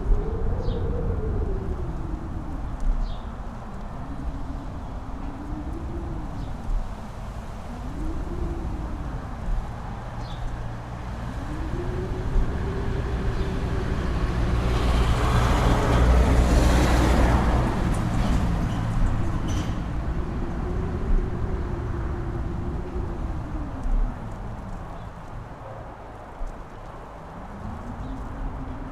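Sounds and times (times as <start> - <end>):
strong wind gusting and howling: 0.0 - 28.9.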